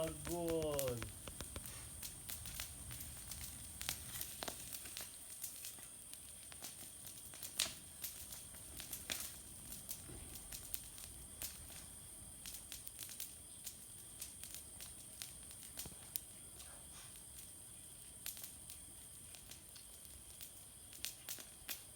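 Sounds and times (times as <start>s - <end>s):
campfire crackling: 0.0s - 21.9s.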